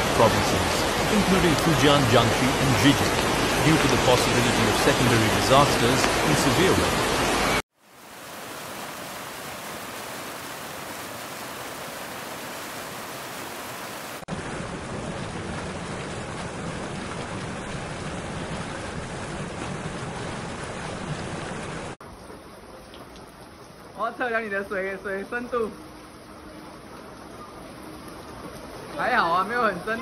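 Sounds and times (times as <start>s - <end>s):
flowing floodwater: 0.0s - 30.0s
heavy rain: 0.0s - 30.0s.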